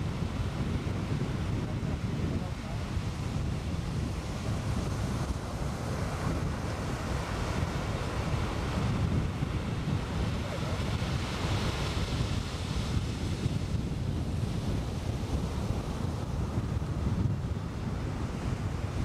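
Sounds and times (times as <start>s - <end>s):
waves breaking: 0.0s - 19.0s
wind buffeting microphone: 0.0s - 19.0s.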